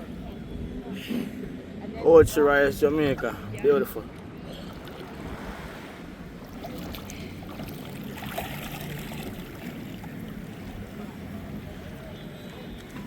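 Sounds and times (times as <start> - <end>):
small waves and water: 0.0 - 13.0.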